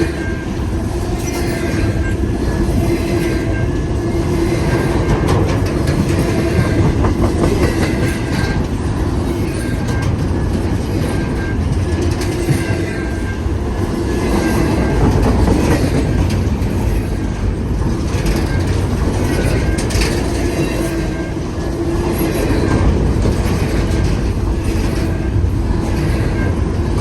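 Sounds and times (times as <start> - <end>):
train wheels clicking over rail joints: 0.0 - 27.0.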